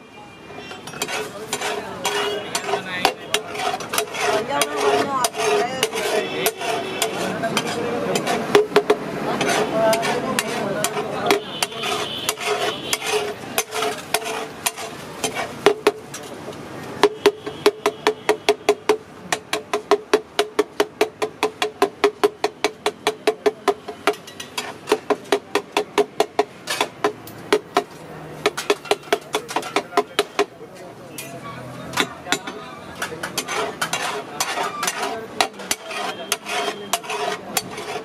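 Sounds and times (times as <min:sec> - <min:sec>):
metal spatula scraping griddle: 0:00.6 - 0:18.9, 0:20.6 - 0:38.0.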